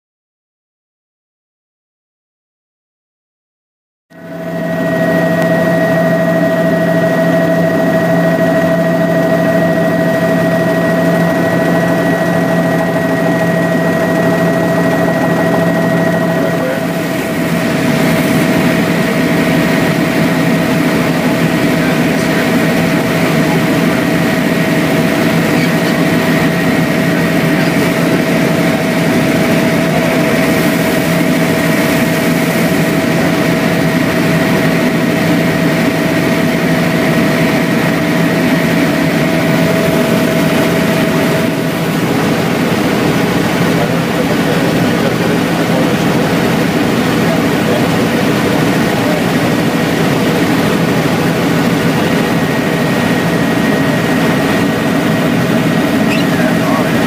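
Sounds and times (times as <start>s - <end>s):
helicopter engine whine: 4.1s - 57.0s
rotor and airflow noise: 4.1s - 57.0s.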